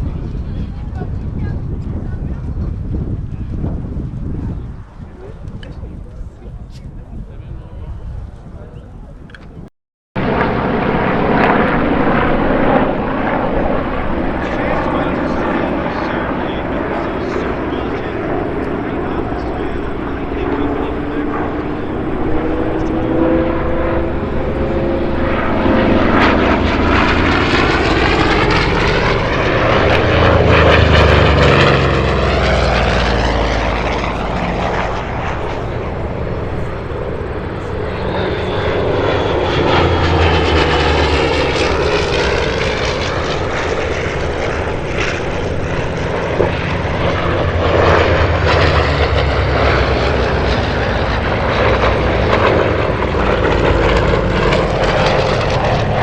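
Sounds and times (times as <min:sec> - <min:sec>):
propeller aircraft flying past: 0:10.2 - 0:56.0.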